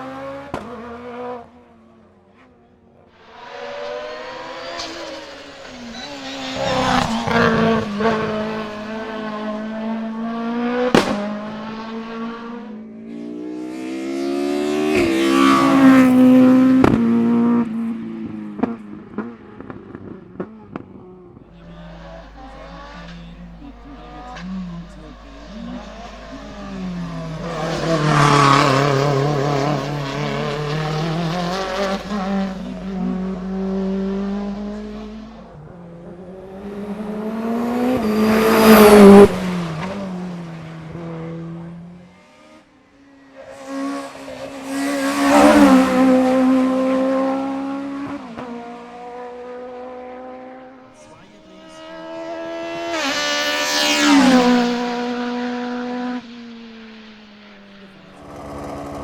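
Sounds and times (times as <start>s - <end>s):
racing cars passing: 0.0s - 59.0s.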